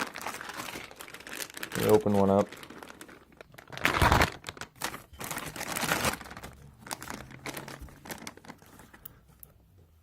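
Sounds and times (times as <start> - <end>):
packaging crinkling and tearing: 0.0 - 9.2.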